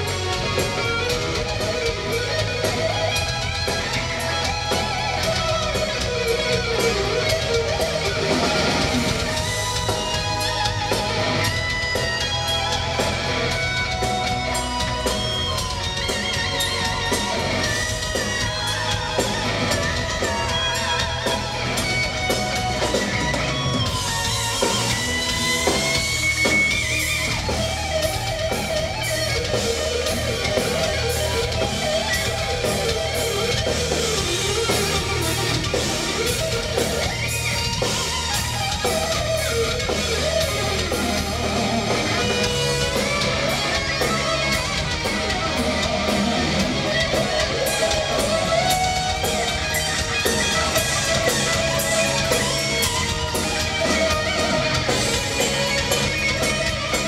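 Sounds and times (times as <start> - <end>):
electric guitar melody: 0.0 - 57.0
live heavy metal band: 0.0 - 57.0.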